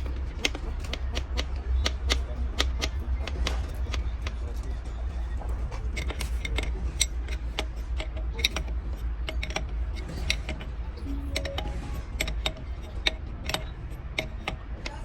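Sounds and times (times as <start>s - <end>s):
metal tools tapping engine parts: 0.0s - 15.0s.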